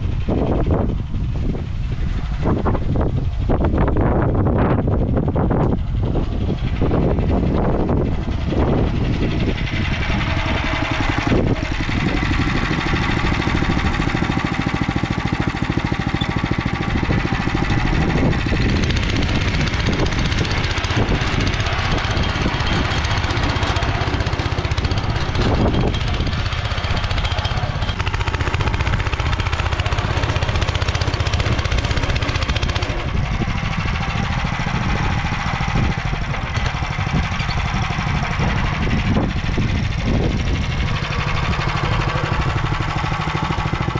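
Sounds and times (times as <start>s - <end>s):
tractor engine running: 0.0s - 43.9s
rotary tiller churning soil: 5.5s - 43.9s.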